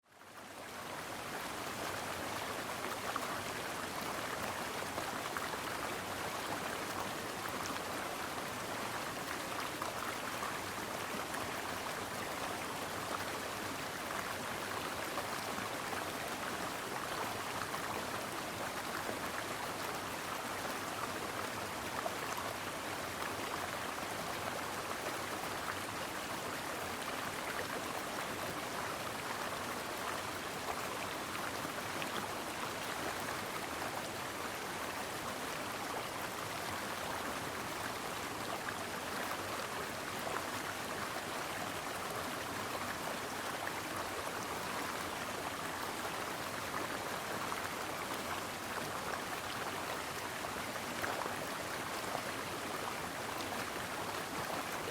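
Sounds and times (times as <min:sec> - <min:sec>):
stream flowing over rocks: 0:00.2 - 0:54.9.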